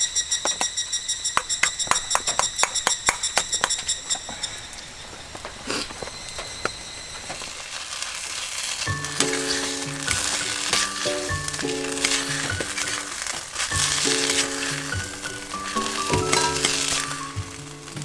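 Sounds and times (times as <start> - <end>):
music: 0.0 - 18.0
soft crackle and patter: 0.0 - 18.0.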